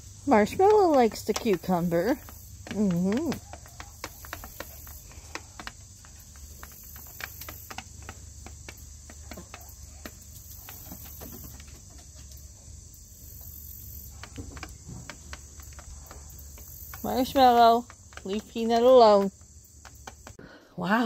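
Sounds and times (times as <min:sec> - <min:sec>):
beaks tapping on metal tray: 0:00.0 - 0:12.3, 0:13.2 - 0:20.4
insects trilling: 0:00.0 - 0:21.0.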